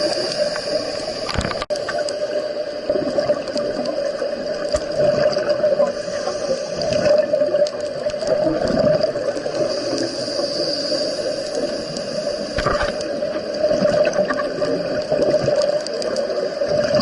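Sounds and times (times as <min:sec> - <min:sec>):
underwater gurgling bubbles: 0:00.0 - 0:17.0.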